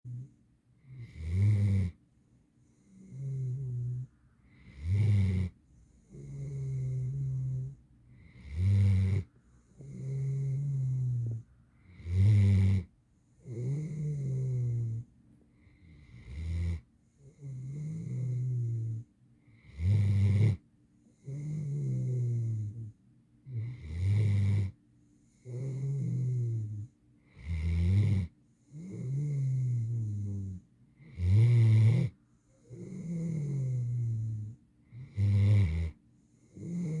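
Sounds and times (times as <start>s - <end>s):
puppy snoring: 0.0s - 2.0s, 2.8s - 37.0s.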